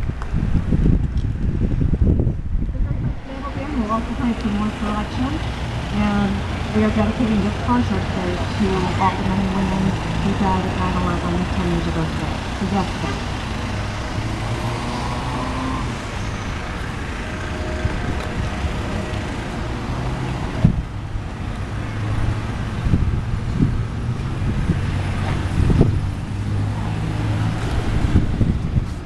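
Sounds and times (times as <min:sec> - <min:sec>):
car engine idling: 0:02.4 - 0:28.5.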